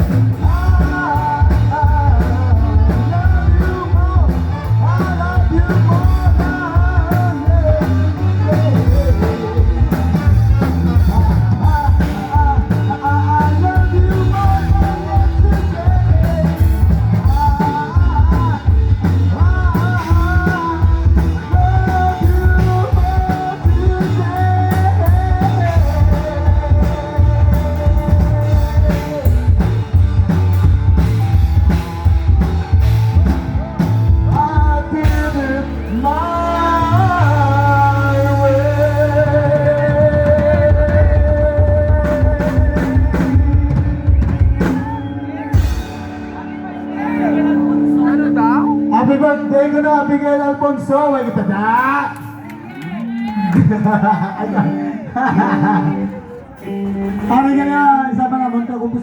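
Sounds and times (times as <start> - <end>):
person singing: 0.0 - 59.0
rock band playing: 0.0 - 59.0.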